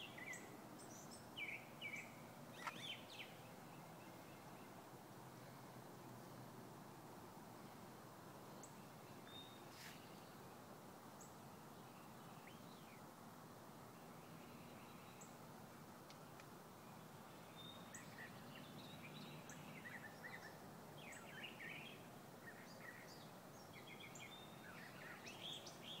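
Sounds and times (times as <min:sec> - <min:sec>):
faint birds chirping: 0:00.0 - 0:26.0
steady low hiss: 0:00.0 - 0:26.0.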